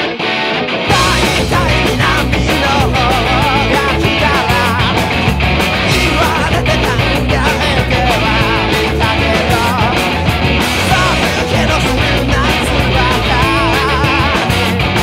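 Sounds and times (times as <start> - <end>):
electric guitar strummed hard: 0.0 - 15.0
garage rock band music: 0.0 - 15.0.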